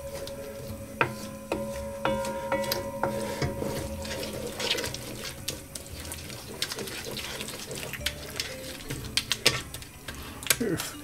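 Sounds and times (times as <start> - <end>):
wooden spoon scraping pot: 0.0 - 10.5
food sizzling: 0.0 - 11.0.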